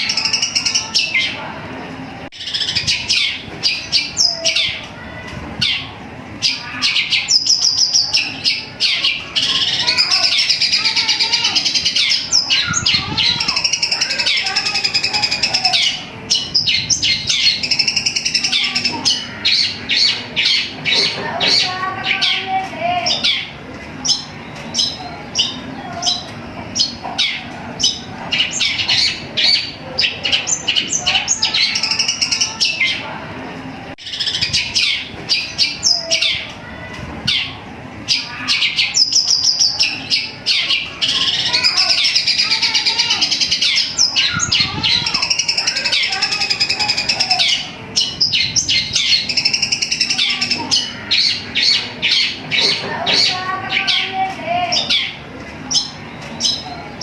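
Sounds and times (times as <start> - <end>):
bird singing rapid chirps: 5.6 - 33.0, 37.3 - 57.0.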